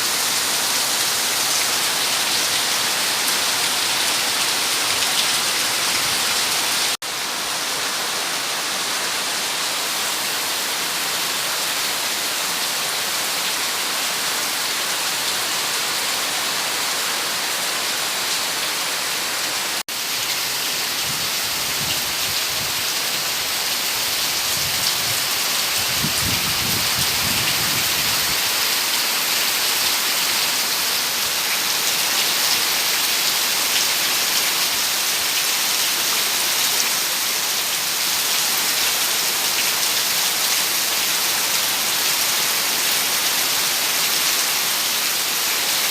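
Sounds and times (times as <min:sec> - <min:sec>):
rain falling steadily: 0:00.0 - 0:45.9.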